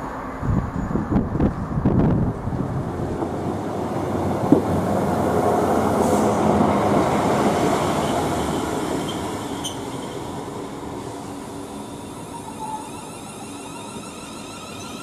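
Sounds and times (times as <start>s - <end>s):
train wheels on rails: 1.4s - 15.0s.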